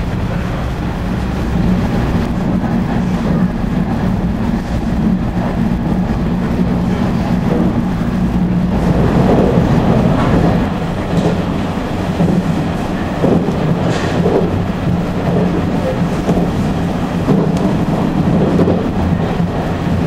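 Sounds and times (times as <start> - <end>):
constant train hum: 0.0 - 20.0
train wheels rumbling on rails: 0.0 - 20.0.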